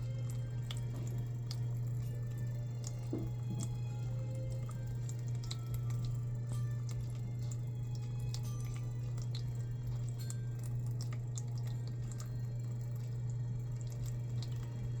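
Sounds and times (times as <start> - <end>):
steady low hum: 0.0 - 15.0
water drops plinking into basin: 0.0 - 15.0.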